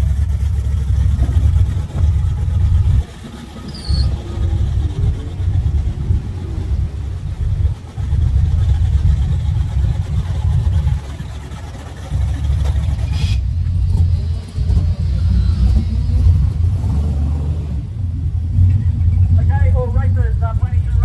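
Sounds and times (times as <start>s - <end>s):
car engines idling: 0.0s - 21.0s.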